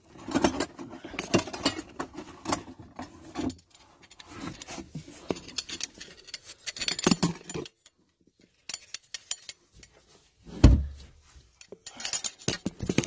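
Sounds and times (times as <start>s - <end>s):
handling noise rustling and clinking: 0.0s - 13.0s.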